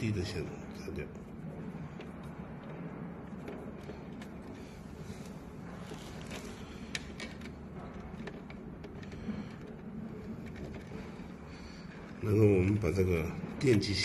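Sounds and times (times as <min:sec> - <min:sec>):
light clicks and handling noises: 0:00.0 - 0:14.0
low background hum: 0:00.0 - 0:14.0.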